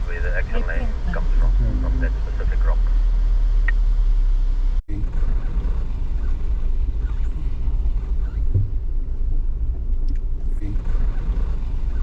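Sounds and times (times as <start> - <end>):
vehicle rumbling on dirt track: 0.0 - 12.0.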